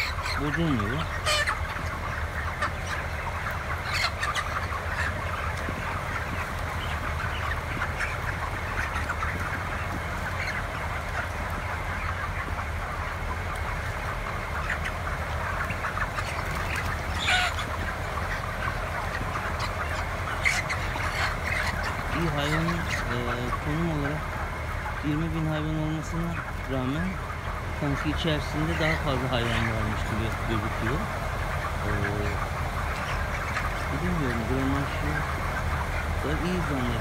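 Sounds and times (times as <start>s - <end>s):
chickens peeping and clucking: 0.0s - 37.0s
loud chicken calls: 0.0s - 37.0s
ventilation fans humming: 0.0s - 37.0s.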